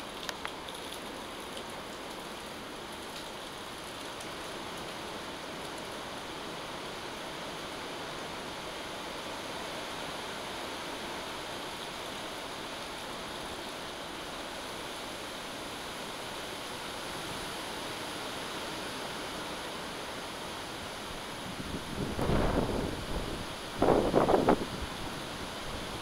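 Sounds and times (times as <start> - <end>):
steady rain hiss: 0.0 - 26.0.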